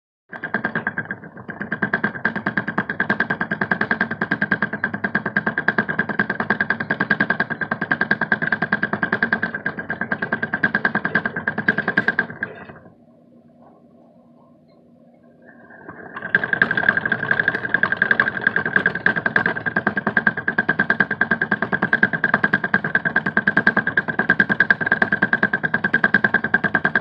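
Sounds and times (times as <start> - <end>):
hamster wheel rattling: 0.3 - 12.9, 15.9 - 27.0.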